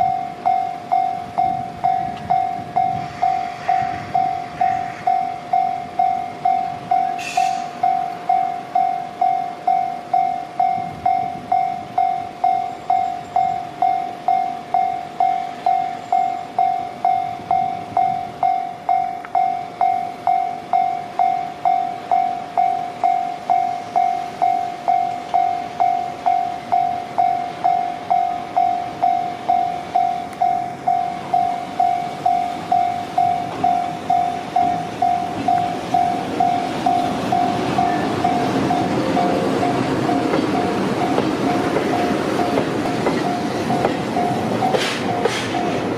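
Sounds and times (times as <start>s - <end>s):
faint train rumble: 0.0s - 45.9s
level-crossing alarm dinging: 0.0s - 45.9s.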